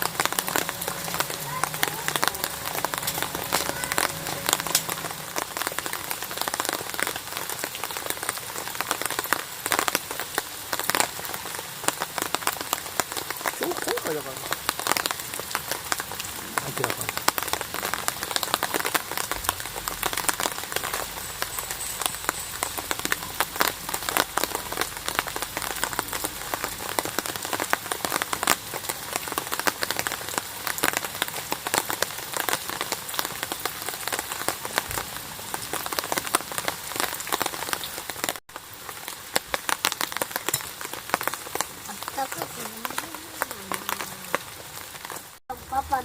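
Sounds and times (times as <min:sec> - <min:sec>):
steady rain drops: 0:00.0 - 0:46.0.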